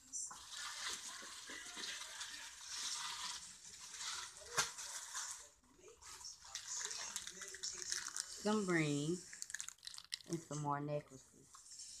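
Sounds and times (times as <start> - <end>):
plastic bags rustling: 0.3 - 10.6.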